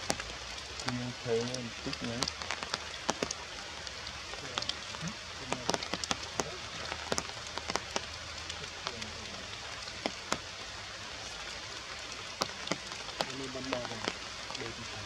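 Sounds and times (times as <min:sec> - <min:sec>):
rain hissing: 0:00.0 - 0:15.0
raindrops ticking close by: 0:00.0 - 0:15.0.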